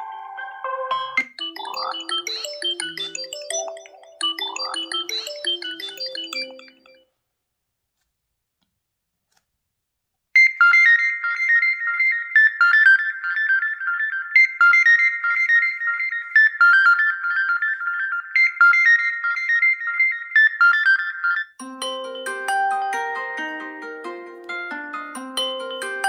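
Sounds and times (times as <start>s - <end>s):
phone ringtone melody: 0.0s - 7.1s, 10.4s - 26.0s.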